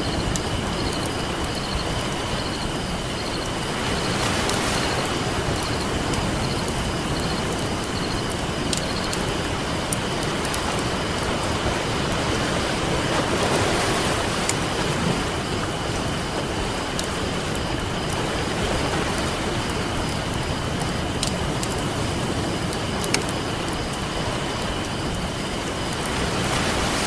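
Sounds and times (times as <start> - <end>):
campfire crackling: 0.0 - 27.0
ocean surf washing: 0.0 - 27.0.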